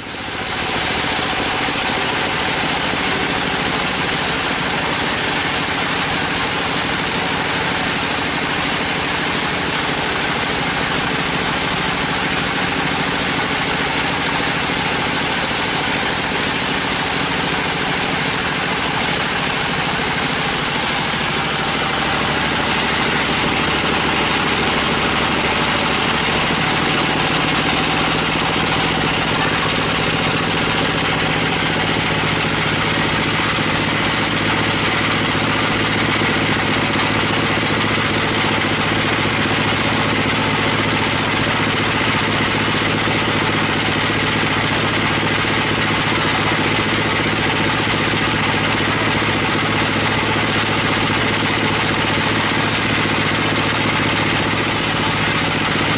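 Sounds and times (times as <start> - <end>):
sawmill engine drone: 0.0 - 55.9.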